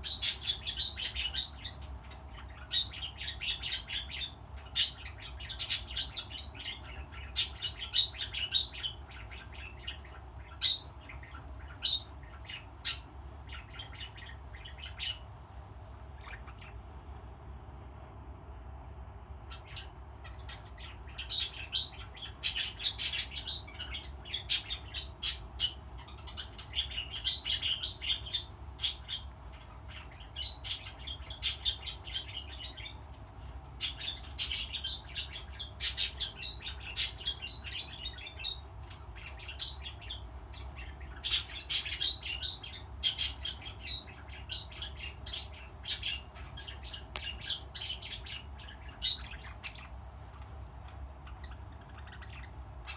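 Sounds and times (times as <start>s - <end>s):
budgerigars chirping: 0.0s - 15.2s, 19.5s - 33.0s, 33.8s - 50.0s, 51.2s - 52.9s
low steady hum: 0.0s - 52.9s.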